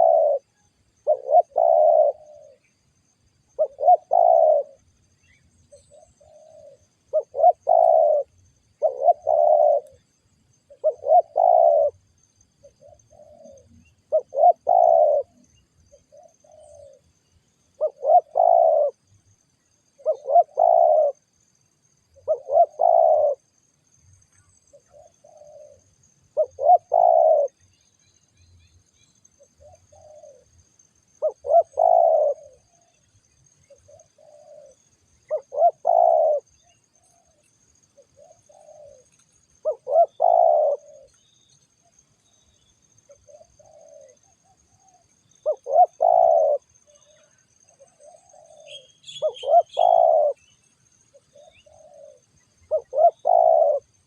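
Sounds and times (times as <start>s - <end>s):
doves cooing: 0.0s - 2.8s, 3.5s - 4.9s, 5.7s - 17.1s, 17.7s - 19.1s, 20.0s - 21.4s, 22.1s - 23.5s, 24.7s - 27.7s, 29.4s - 30.6s, 31.2s - 41.2s, 42.6s - 54.0s.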